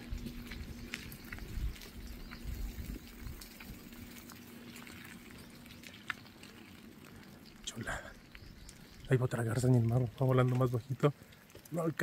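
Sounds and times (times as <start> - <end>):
faint steady hum: 0.0 - 10.2
light rain on wet street: 0.0 - 12.0.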